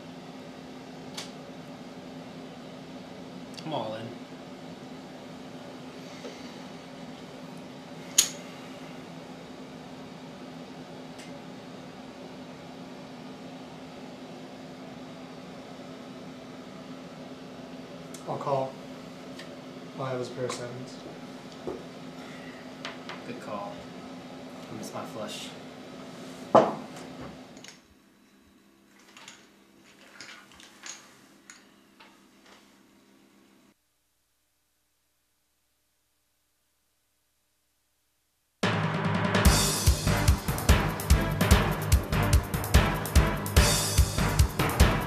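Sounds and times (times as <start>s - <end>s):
low electrical hum: 0.0s - 38.6s, 39.4s - 45.0s.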